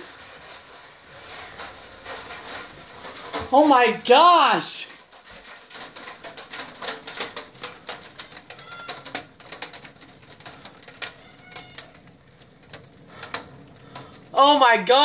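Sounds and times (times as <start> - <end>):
hail striking roof and glass: 0.0 - 15.0.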